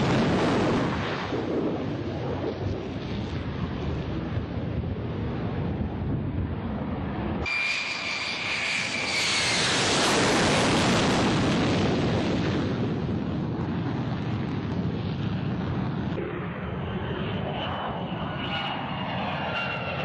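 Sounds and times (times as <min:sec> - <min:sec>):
jet engine high whine: 0:00.0 - 0:20.0
jet engine roar: 0:00.0 - 0:20.0
wind noise: 0:00.0 - 0:20.0.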